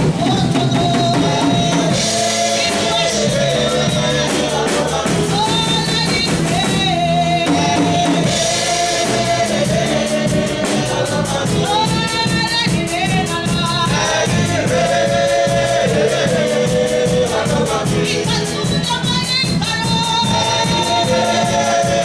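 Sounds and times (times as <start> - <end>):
steady beat: 0.0 - 6.9, 7.6 - 22.0
choir singing gospel music: 0.0 - 22.0.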